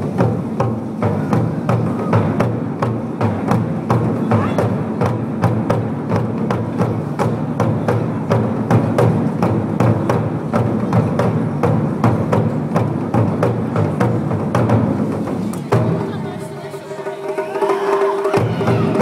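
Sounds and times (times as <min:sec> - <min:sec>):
drums beaten in fast rhythm: 0:00.0 - 0:19.0.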